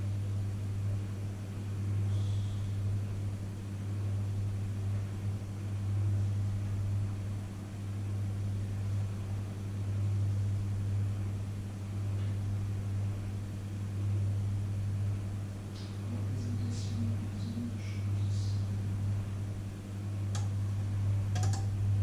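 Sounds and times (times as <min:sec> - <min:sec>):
microwave oven humming: 0:00.0 - 0:22.0.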